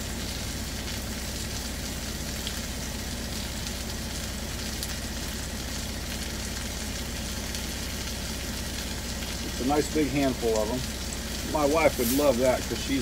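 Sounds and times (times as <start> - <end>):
low steady hum: 0.0 - 13.0
vegetables sizzling in oil: 0.0 - 13.0.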